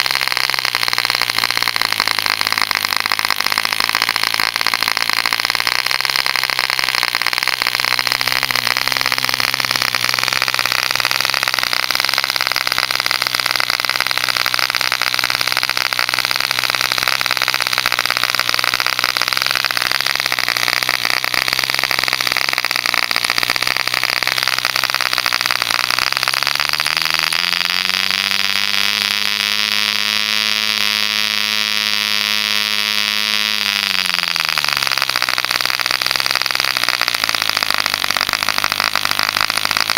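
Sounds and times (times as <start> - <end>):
low hum rising in pitch: 0.0 - 39.8
model engine high-pitched buzz: 0.0 - 39.9.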